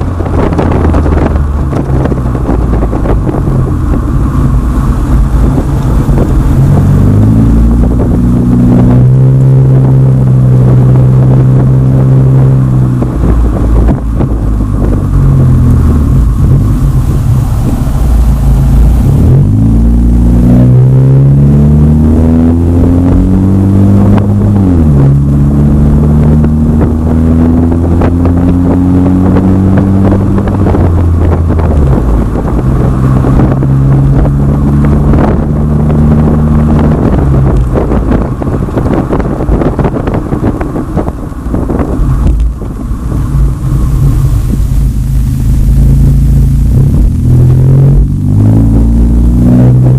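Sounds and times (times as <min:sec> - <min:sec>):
car exhaust accelerating: 0:00.0 - 0:49.9.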